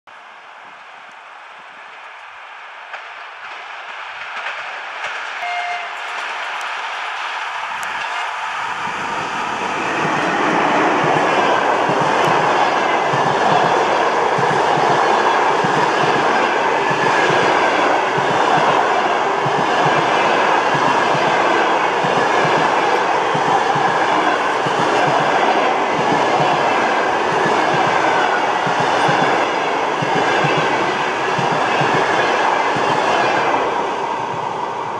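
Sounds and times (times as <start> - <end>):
train coaches rolling past: 0.3 - 34.9.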